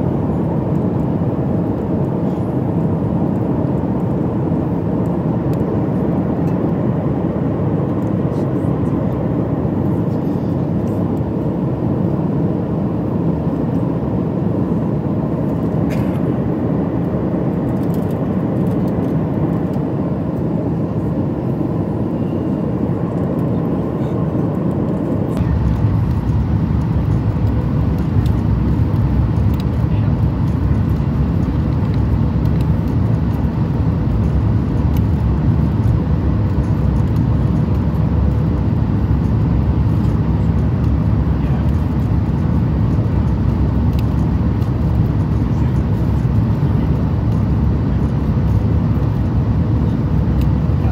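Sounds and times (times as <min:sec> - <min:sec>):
airplane cabin hum: 0:00.0 - 0:50.9
jet landing rumble: 0:00.0 - 0:50.9.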